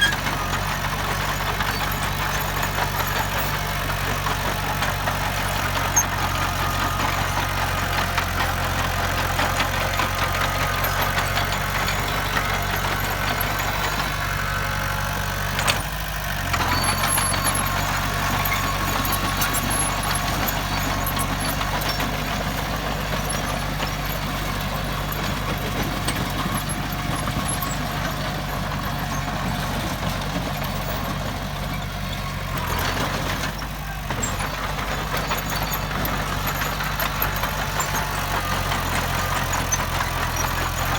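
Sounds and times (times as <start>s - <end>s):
diesel earthmoving machinery running: 0.0s - 40.9s.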